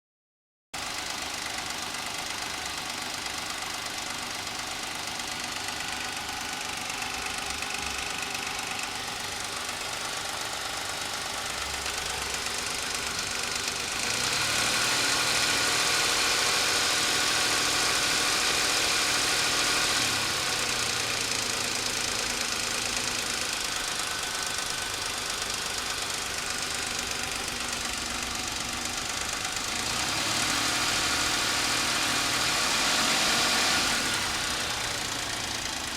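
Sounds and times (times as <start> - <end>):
car engine running with knock: 0.8 - 35.9.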